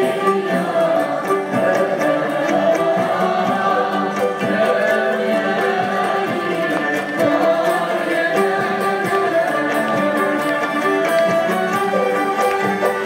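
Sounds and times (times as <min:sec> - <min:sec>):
group of voices singing: 0:00.0 - 0:13.0
string ensemble playing: 0:00.0 - 0:13.0.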